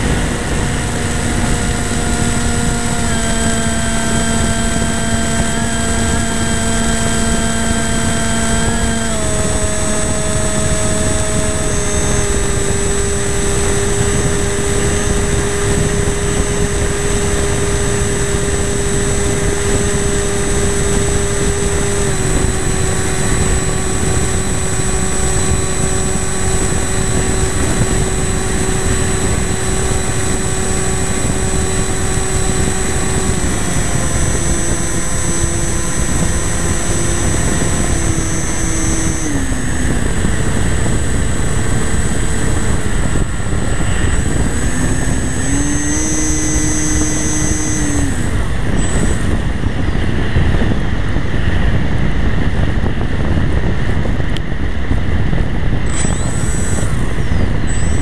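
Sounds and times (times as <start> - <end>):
model plane motor whine: 0.0 - 58.0
wind rushing on microphone: 0.0 - 58.0.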